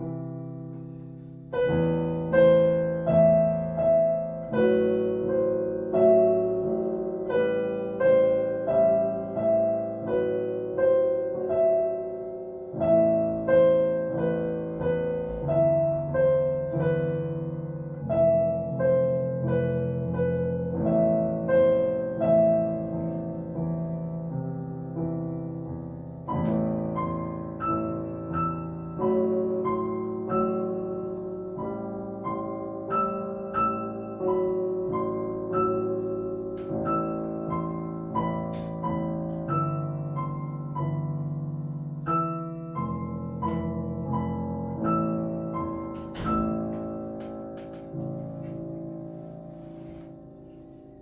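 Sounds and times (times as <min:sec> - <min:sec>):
slow solo piano piece: 0:00.0 - 0:51.0.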